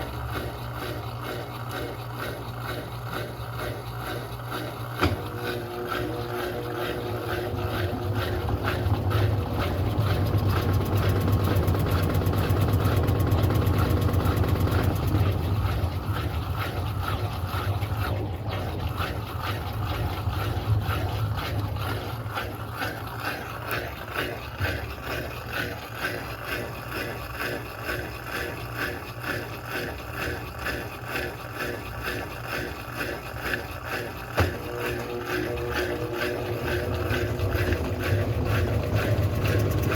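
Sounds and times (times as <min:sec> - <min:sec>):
washing machine motor pulsing: 0:00.0 - 0:39.9.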